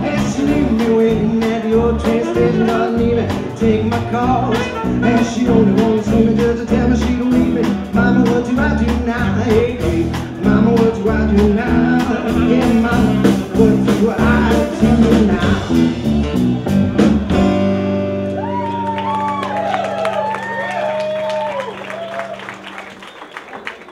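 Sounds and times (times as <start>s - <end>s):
live blues-rock band playing: 0.0s - 21.2s.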